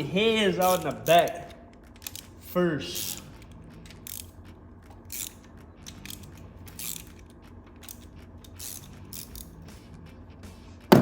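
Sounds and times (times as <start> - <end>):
socket ratchet clicking: 0.6 - 9.7.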